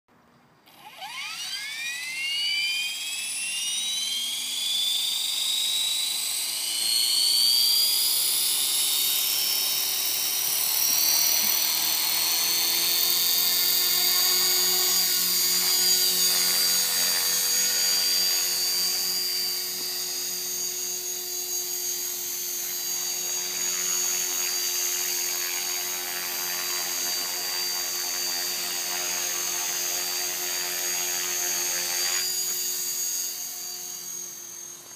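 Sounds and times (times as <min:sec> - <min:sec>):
rc helicopter motor whine: 0:00.6 - 0:34.9
rotor noise: 0:00.7 - 0:34.9.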